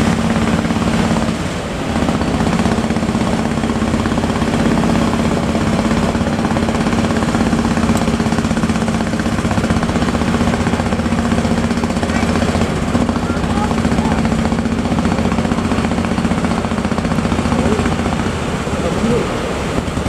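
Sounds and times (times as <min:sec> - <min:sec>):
boat diesel engine running: 0:00.0 - 0:20.0.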